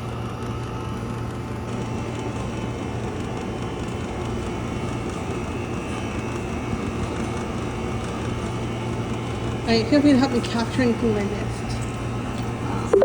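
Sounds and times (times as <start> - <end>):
compressors humming: 0.0 - 13.0
mechanical whir: 0.0 - 13.0.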